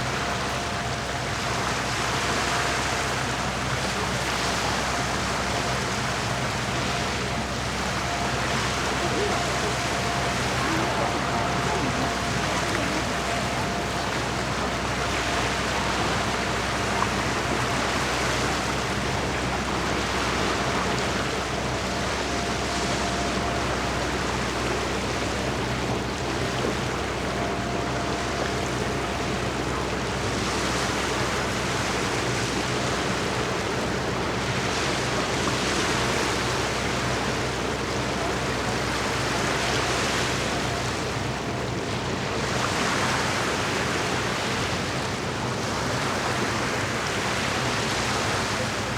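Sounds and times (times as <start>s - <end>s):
low engine hum: 0.0s - 48.9s
waves washing against shore: 0.0s - 48.9s.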